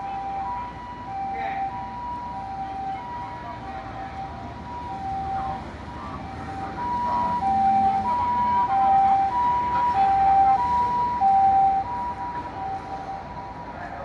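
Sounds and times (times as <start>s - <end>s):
two-tone ambulance siren: 0.0s - 14.0s.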